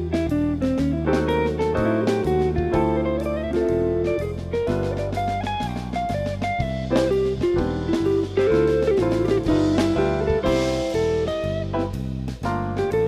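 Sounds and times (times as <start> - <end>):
bass: 0.0 - 13.0
drum kit beat: 0.0 - 13.0
guitar: 0.0 - 13.0.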